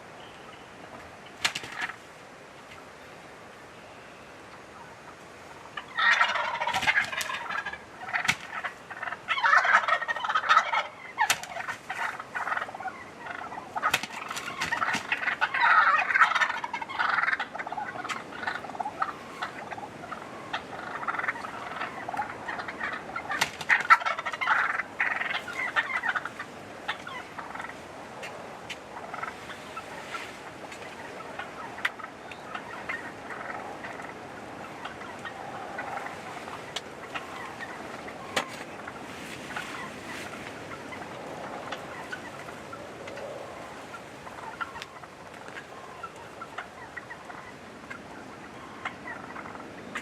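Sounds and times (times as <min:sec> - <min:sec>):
turkeys gobbling: 0:00.9 - 0:02.8, 0:04.5 - 0:50.0.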